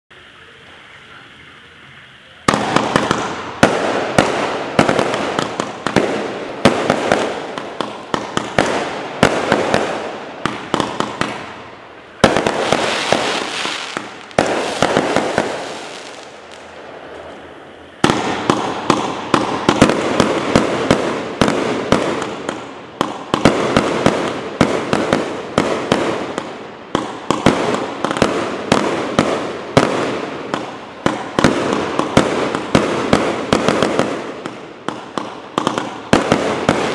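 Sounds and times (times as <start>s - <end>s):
fireworks hiss: 0.1s - 36.9s
fireworks shots firing rapidly: 2.4s - 11.6s, 12.2s - 16.6s, 18.0s - 36.9s.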